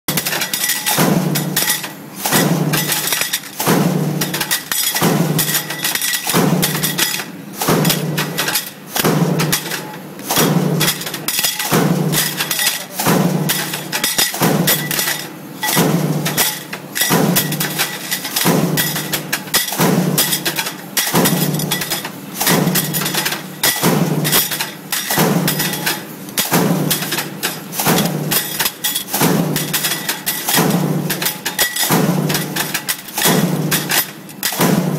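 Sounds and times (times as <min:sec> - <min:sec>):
metallic clattering and knocking: 0:00.1 - 0:34.9
stamping press running: 0:00.1 - 0:34.9.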